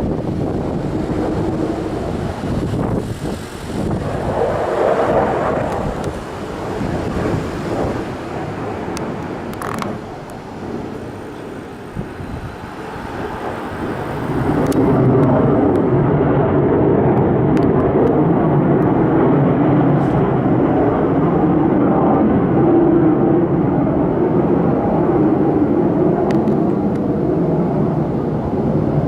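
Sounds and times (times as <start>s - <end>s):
military aircraft roaring overhead: 0.0s - 29.0s.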